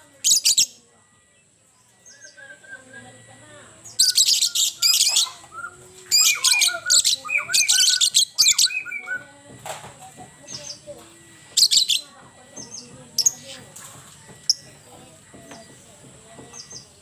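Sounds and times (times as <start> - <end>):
songbird singing: 0.0 - 17.0
high-pitched bird chattering trills: 0.1 - 9.4, 10.2 - 17.0.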